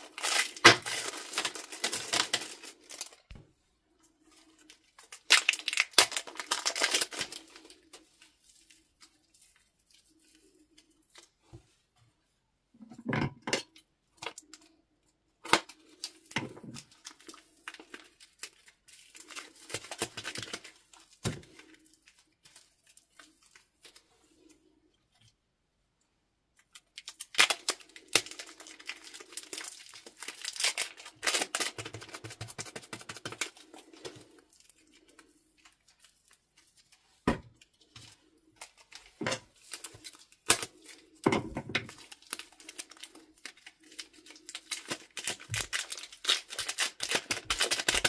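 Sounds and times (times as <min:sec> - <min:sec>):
plastic packets crinkling: 0:00.0 - 0:03.4, 0:04.0 - 0:11.4, 0:15.5 - 0:24.5, 0:26.6 - 0:48.0.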